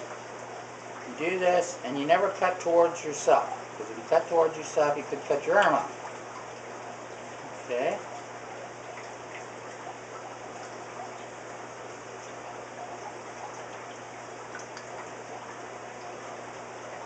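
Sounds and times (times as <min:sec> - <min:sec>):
trickle of running water: 0:00.0 - 0:17.0.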